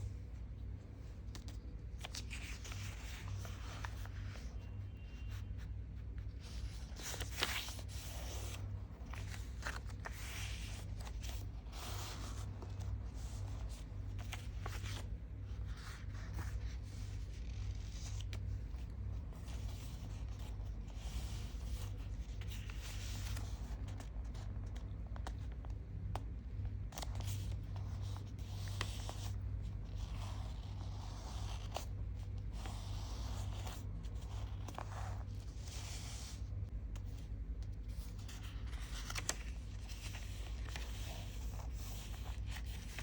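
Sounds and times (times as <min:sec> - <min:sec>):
paper rustling and folding: 0:00.0 - 0:43.0
steady low hum: 0:00.0 - 0:43.0.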